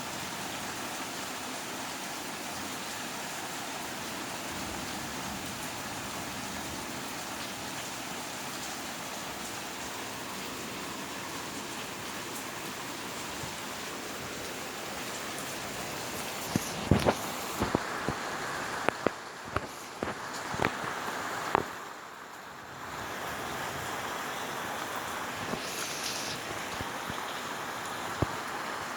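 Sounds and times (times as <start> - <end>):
steady rain hissing: 0.0 - 28.9.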